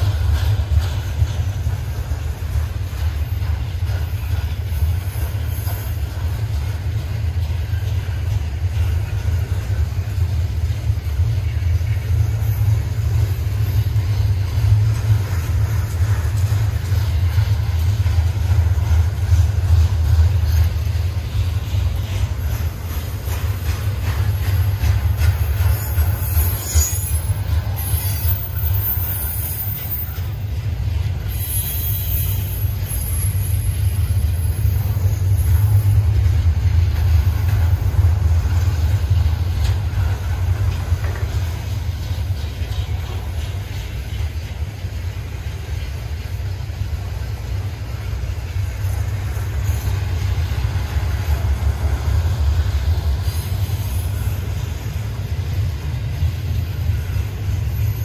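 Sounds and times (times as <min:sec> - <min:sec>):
freight train cars rumbling: 0:00.0 - 0:58.0.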